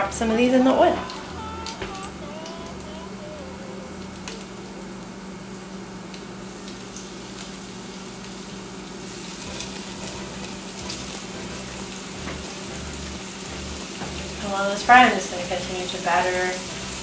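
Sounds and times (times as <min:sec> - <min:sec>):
sausages frying in oil: 0:00.0 - 0:17.0.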